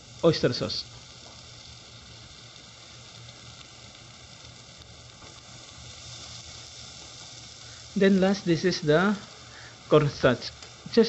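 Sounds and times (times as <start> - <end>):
food frying in oil: 0.0 - 11.0.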